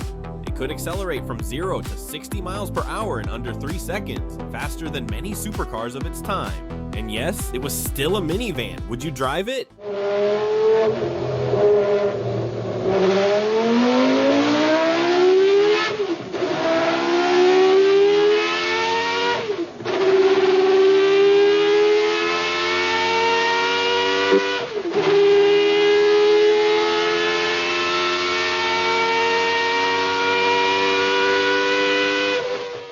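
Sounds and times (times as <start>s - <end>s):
car engine accelerating: 0.0s - 9.2s, 9.8s - 32.9s.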